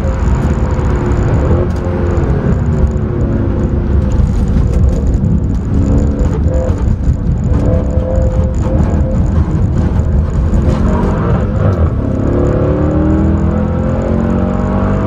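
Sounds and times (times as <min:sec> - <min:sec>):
car engine revving: 0:00.0 - 0:15.0
road and tyre noise: 0:00.0 - 0:15.0.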